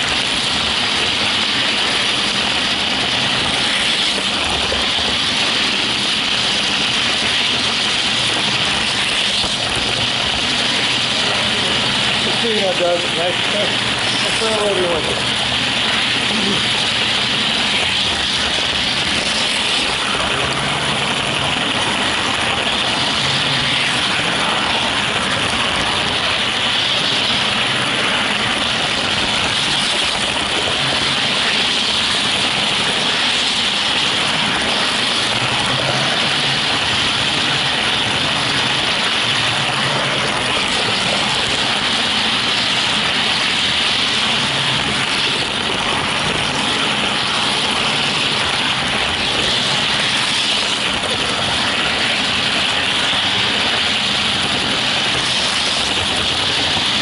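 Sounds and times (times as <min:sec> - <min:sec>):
model train running on track: 0:00.0 - 0:57.0.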